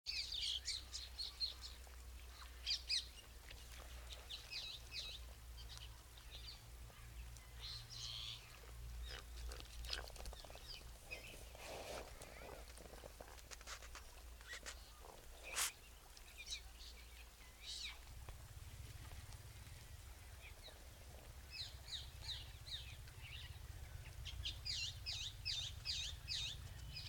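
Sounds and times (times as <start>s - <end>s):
birds chirping: 0.1s - 27.0s.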